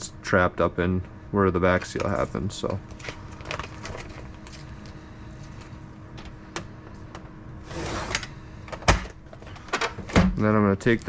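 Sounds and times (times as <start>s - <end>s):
vacuum sealer pump humming: 1.0s - 10.4s.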